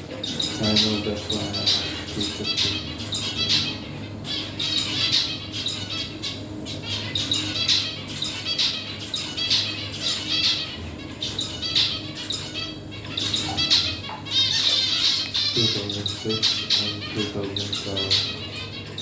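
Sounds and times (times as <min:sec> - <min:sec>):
birds squawking: 0:00.0 - 0:19.0
steady low hum: 0:00.0 - 0:19.0.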